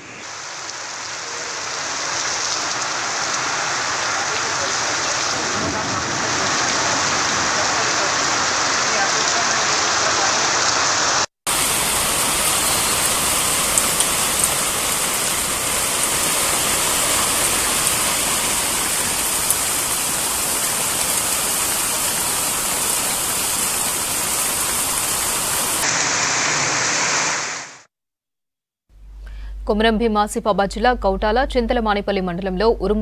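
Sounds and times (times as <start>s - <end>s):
heavy rain on street: 0.0s - 27.9s.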